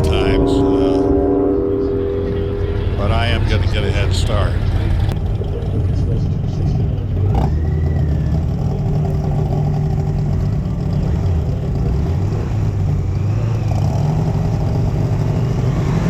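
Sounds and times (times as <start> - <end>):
motorcycle engine idling: 0.0 - 15.8.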